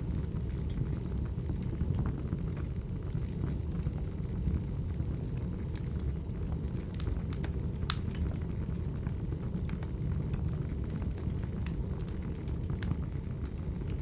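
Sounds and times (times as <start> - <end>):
burning logs crackling: 0.0 - 14.0
fire flames rumbling: 0.0 - 14.0.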